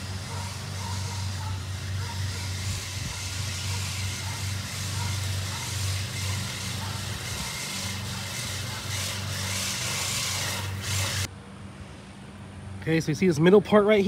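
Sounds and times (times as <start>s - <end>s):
motor humming: 0.0s - 11.3s.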